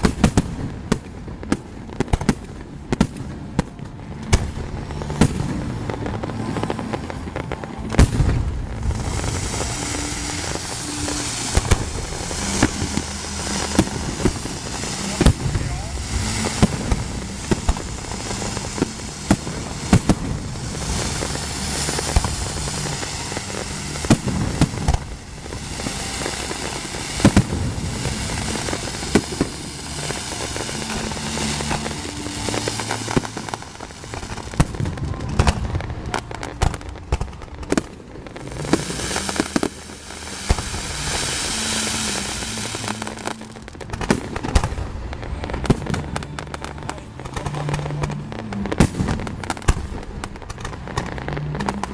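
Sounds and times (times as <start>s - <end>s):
fireworks bursting with crackling: 0.0s - 51.9s.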